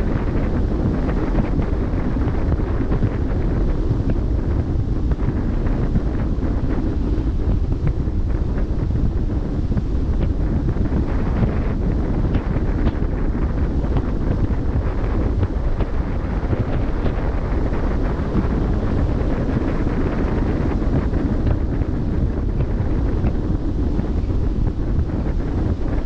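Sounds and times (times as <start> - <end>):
sea water washing along hull: 0.0 - 26.0
wind buffeting microphone: 0.0 - 26.0.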